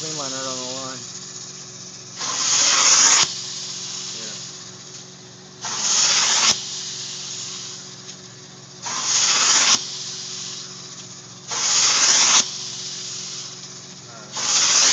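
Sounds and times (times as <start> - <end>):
machine hum: 0.0 - 14.9
spray and suction hiss: 0.0 - 14.9.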